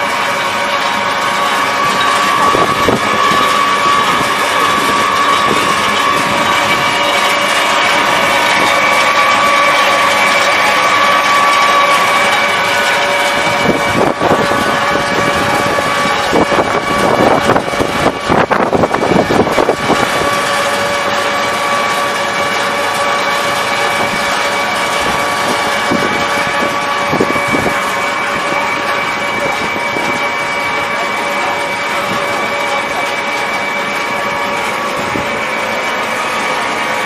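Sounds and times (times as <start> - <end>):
machinery drone with whine: 0.0 - 37.0.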